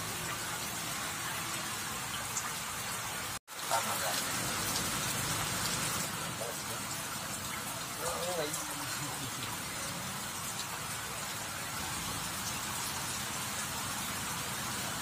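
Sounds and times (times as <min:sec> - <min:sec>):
heavy rain on standing water: 0:00.0 - 0:15.0.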